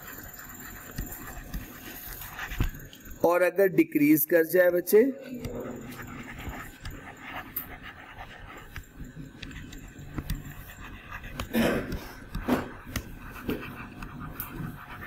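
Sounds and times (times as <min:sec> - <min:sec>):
stylus tapping and scratching screen: 0:00.0 - 0:03.4, 0:04.0 - 0:15.0.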